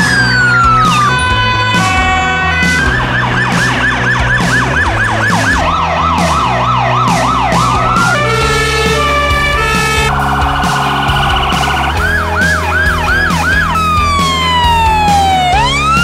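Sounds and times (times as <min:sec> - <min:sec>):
background music with steady beat: 0:00.0 - 0:16.0
siren yelping: 0:00.0 - 0:16.0.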